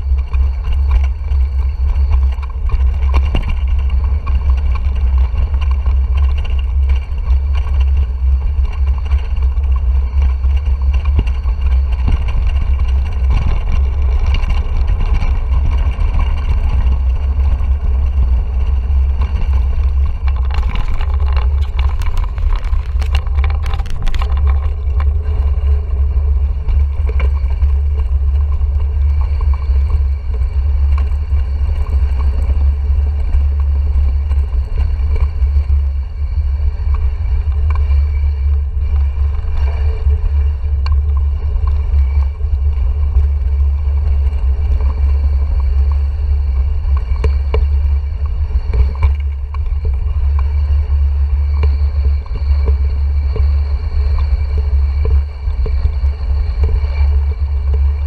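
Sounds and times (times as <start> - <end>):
bike rattling over stones: 0.0 - 58.0
wind buffeting microphone: 0.0 - 58.0.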